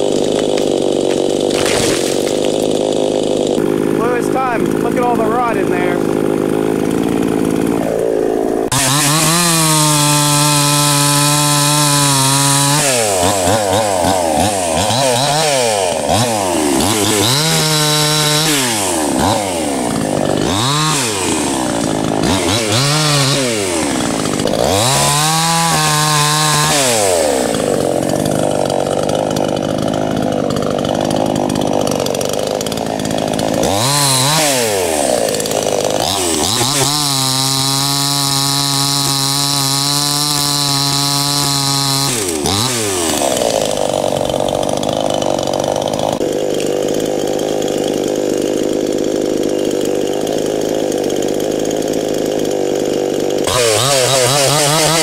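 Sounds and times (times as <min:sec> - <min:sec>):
chainsaw revving and cutting: 0:00.0 - 0:55.0.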